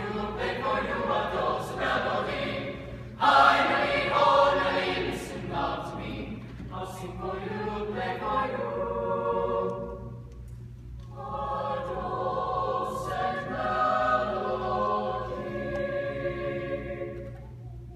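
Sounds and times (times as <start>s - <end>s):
choir singing in harmony: 0.0s - 10.3s, 11.2s - 17.6s.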